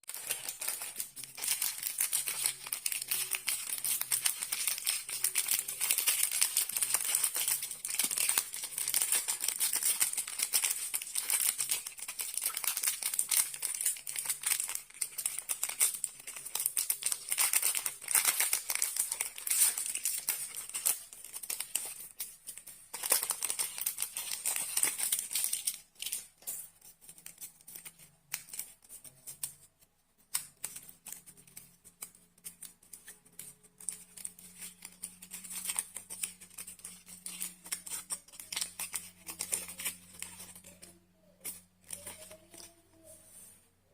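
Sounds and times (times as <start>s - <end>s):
foil wrappers crinkling: 0.0s - 29.5s, 30.4s - 43.2s.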